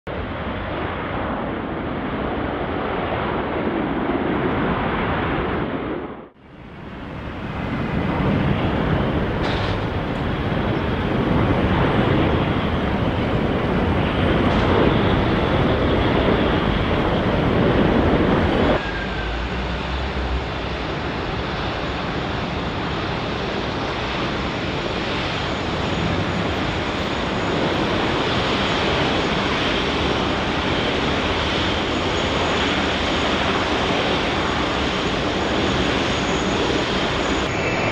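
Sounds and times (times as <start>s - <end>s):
jet engines rushing: 0.1s - 37.9s.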